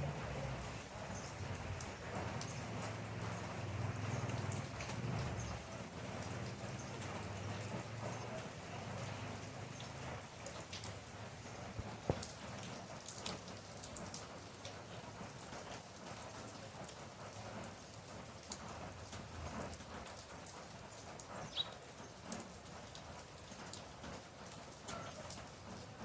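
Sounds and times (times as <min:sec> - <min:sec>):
rain drops ticking on surface: 0:00.0 - 0:26.0
steady rain: 0:00.0 - 0:26.0.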